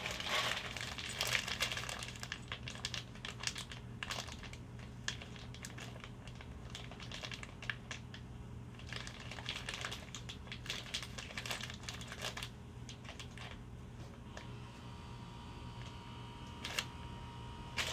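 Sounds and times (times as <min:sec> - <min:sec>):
packaging crinkling and rustling: 0:00.0 - 0:14.6, 0:15.7 - 0:17.9.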